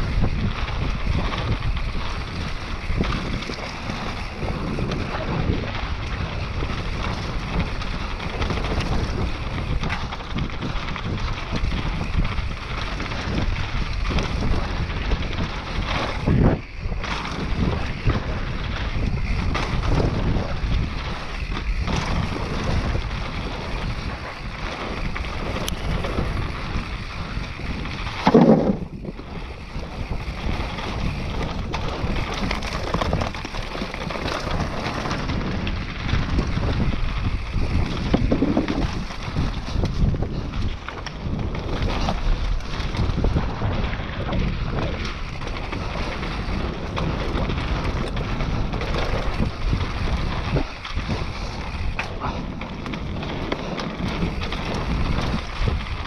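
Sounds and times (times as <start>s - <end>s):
bike clattering over bumps: 0.0s - 56.0s
tyres rolling on dirt: 0.0s - 56.0s
wind rushing over microphone: 0.0s - 56.0s.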